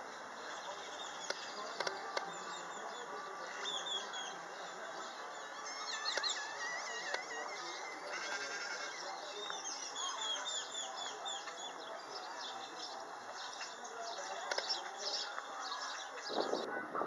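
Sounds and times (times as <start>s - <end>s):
steady outdoor hiss: 0.0s - 17.0s
small birds chirping: 0.1s - 16.7s.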